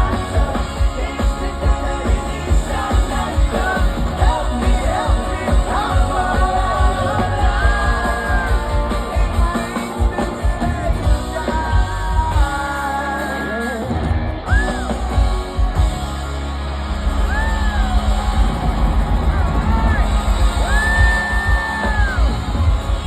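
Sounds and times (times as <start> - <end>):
heavy bass: 0.0 - 23.0
live rock band playing: 0.0 - 23.0.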